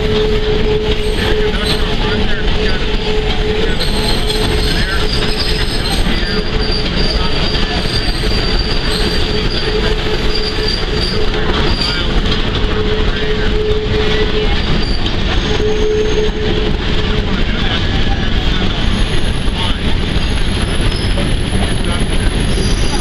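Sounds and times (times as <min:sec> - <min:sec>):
train wheels squealing: 0:00.0 - 0:16.8, 0:17.6 - 0:23.0
rumble of rolling train cars: 0:00.0 - 0:23.0.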